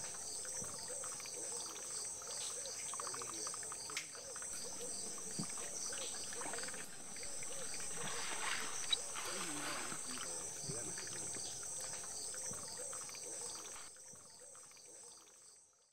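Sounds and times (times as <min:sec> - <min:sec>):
insects trilling: 0:00.0 - 0:15.7.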